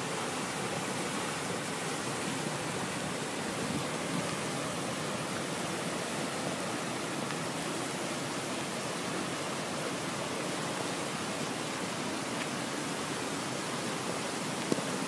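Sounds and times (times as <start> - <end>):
floodwater rushing in creek: 0.0 - 15.0.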